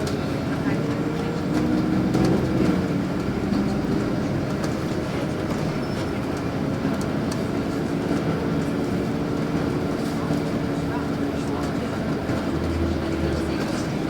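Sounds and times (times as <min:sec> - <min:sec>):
bus engine running: 0:00.0 - 0:14.0.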